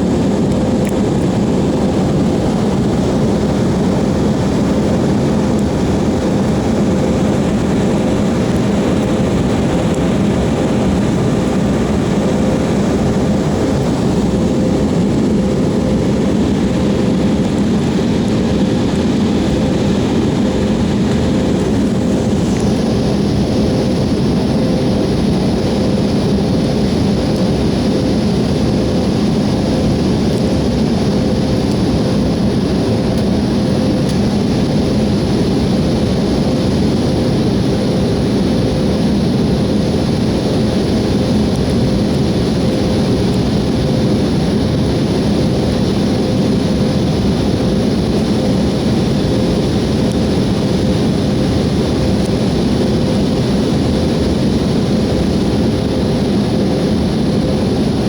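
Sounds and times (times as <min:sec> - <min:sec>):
engines and airflow rushing: 0:00.0 - 0:58.0
steady hum: 0:00.0 - 0:58.0.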